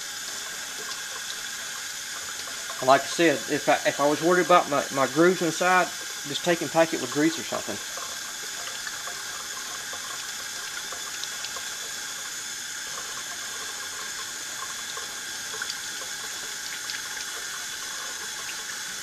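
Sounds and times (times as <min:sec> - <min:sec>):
faucet running into a sink: 0:00.0 - 0:19.0.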